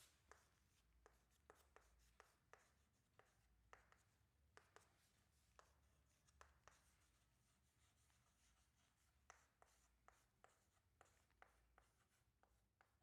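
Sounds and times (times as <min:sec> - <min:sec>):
pen scratching on paper: 0:00.3 - 0:12.9.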